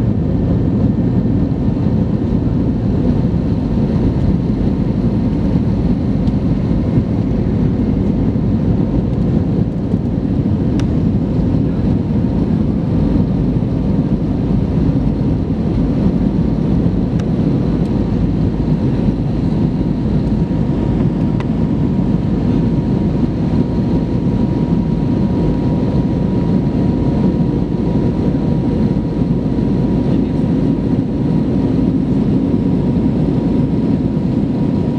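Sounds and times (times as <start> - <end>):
aircraft engines and airflow rumble: 0.0 - 34.9.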